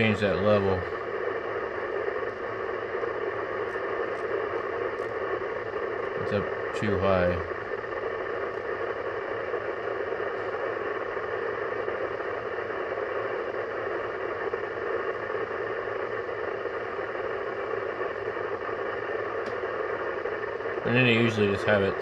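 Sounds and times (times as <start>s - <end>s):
faint steady interference tones: 0.0s - 22.0s
radio static and hiss: 0.0s - 22.0s.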